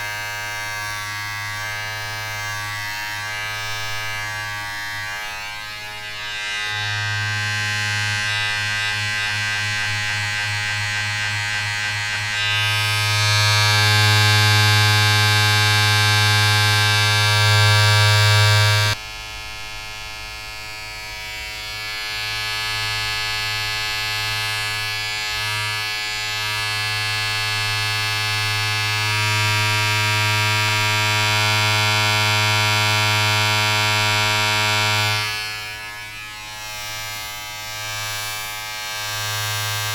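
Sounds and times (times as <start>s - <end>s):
electric appliance buzzing: 0.0s - 39.9s.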